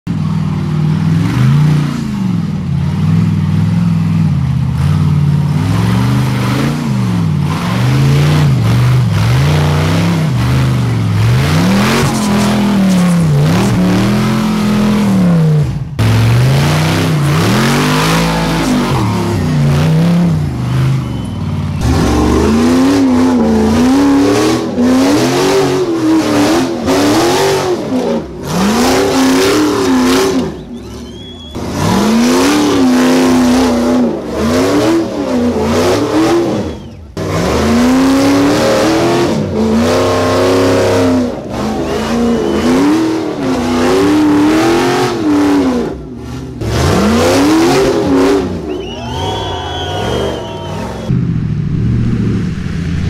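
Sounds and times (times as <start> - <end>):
off-road buggy engines revving: 0.0 - 53.0.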